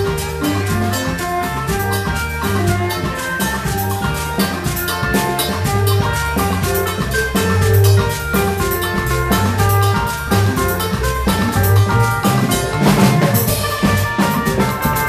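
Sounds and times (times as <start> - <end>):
drum kit and hand percussion: 0.0 - 15.0
electric bass line: 0.0 - 15.0
held melody notes: 0.0 - 15.0.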